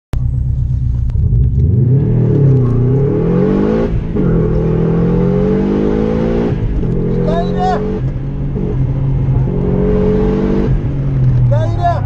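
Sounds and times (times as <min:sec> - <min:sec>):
rally car engine accelerating: 0:00.2 - 0:12.0.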